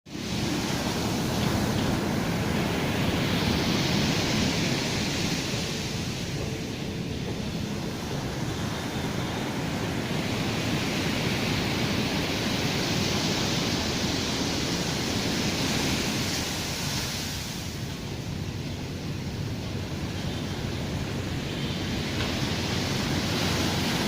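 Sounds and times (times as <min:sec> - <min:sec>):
sea waves surging on beach: 0:00.1 - 0:24.0.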